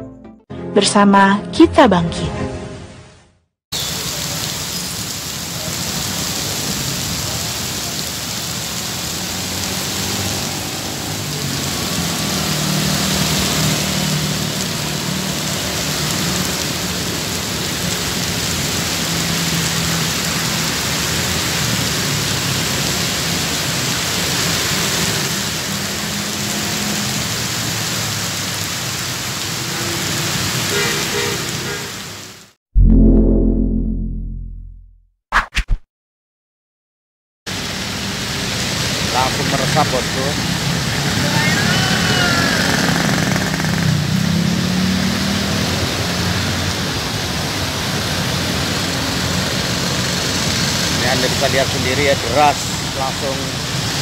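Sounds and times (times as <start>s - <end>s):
heavy rain on pavement: 3.7s - 32.6s, 37.5s - 54.0s
cars passing on wet road: 3.8s - 32.6s, 37.5s - 54.0s.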